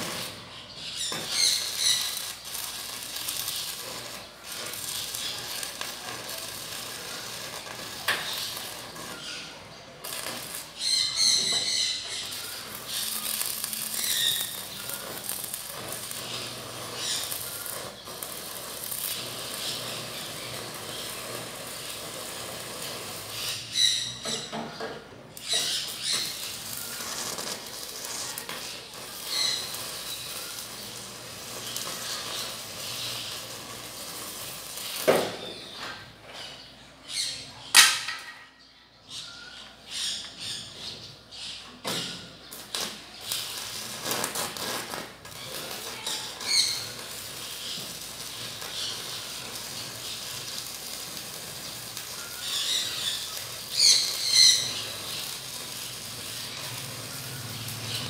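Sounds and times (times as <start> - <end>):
high-pitched torch bursts: 0.0 - 24.5, 25.4 - 35.8, 42.6 - 58.0
gas cutting torch hissing: 0.0 - 24.6, 25.4 - 35.8, 42.6 - 58.0.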